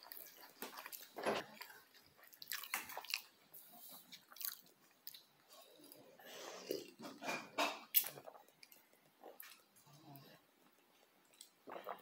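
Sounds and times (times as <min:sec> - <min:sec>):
child chewing with mouth smacks: 0:00.0 - 0:12.0.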